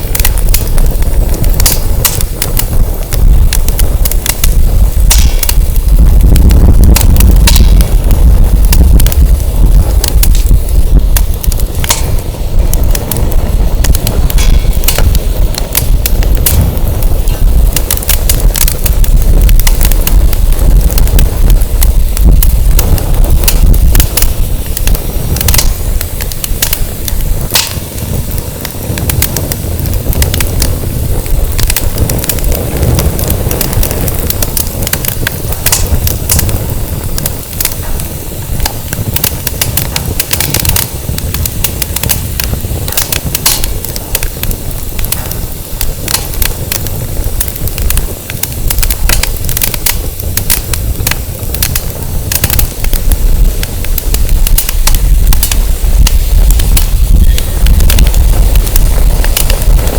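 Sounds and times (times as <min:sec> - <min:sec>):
firewood crackling in a fire pit: 0:00.0 - 0:59.9
wind rumble on microphone: 0:00.0 - 0:59.9.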